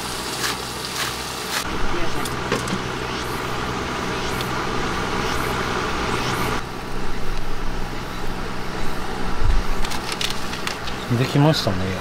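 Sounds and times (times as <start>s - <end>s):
electric fan running: 0.0s - 12.0s.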